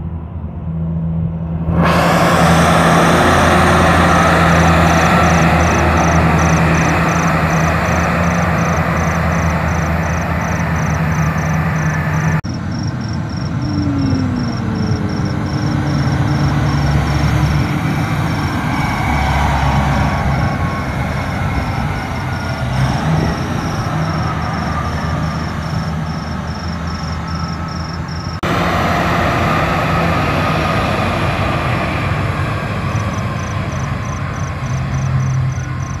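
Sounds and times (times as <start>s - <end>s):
diesel truck engine driving past: 0.0s - 36.0s
tyre and road noise: 0.0s - 36.0s.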